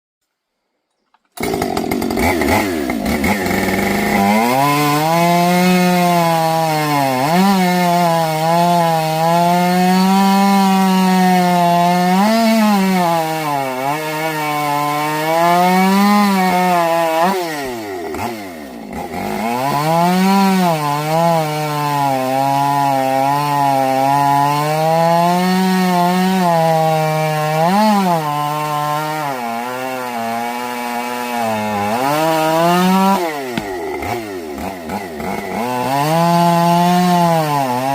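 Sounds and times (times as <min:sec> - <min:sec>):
chainsaw cutting wood: 0:01.2 - 0:37.9.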